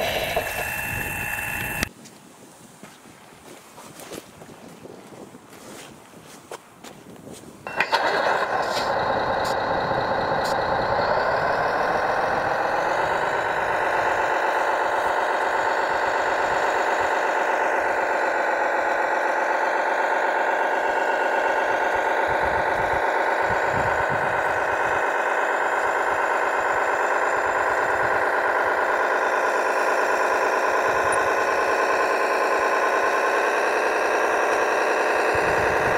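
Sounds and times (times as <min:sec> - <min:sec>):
model truck mechanical hum: 0:00.0 - 0:02.0, 0:06.8 - 0:35.9.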